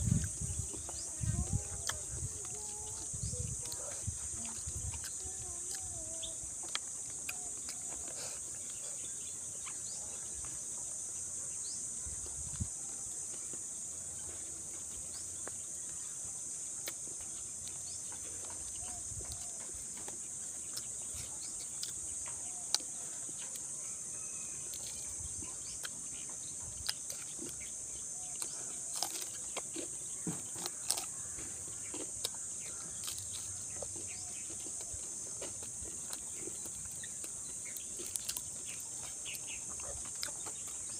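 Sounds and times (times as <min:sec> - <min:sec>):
crunchy eating clicks and smacks: 0:00.0 - 0:11.1, 0:11.8 - 0:23.8, 0:24.6 - 0:40.9.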